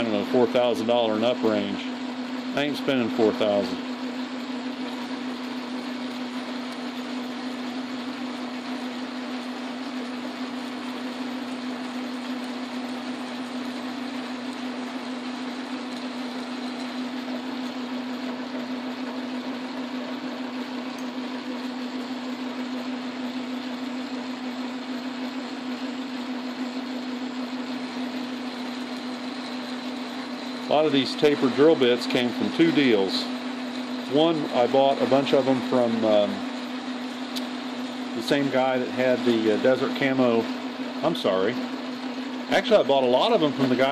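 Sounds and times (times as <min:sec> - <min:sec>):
drill cutting metal: 0:00.0 - 0:41.4
lathe drive hum: 0:00.0 - 0:43.9.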